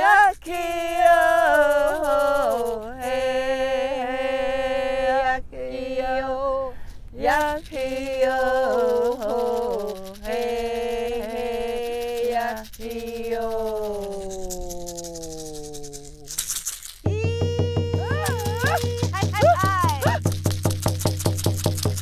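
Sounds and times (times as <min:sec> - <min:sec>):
person singing wordless chant: 0:00.0 - 0:16.1, 0:17.1 - 0:20.2.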